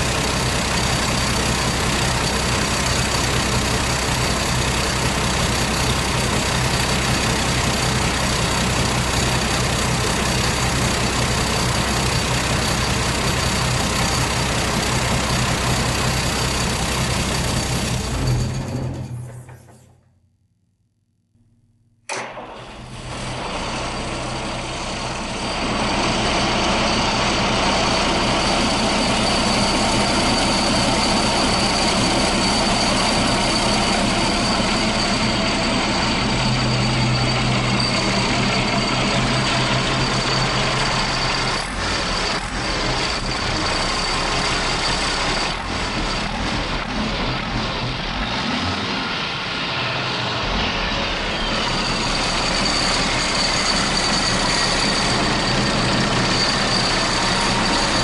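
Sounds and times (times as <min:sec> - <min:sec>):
diesel engine starting and running: 0:00.0 - 0:20.2, 0:22.1 - 0:58.0.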